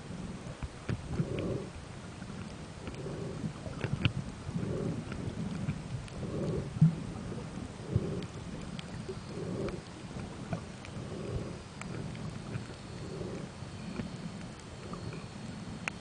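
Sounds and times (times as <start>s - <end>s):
muffled underwater rumble: 0.0s - 16.0s.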